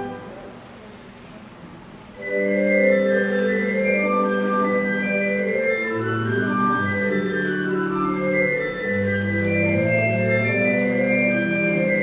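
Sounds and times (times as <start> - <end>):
church organ chord: 2.2 - 12.0.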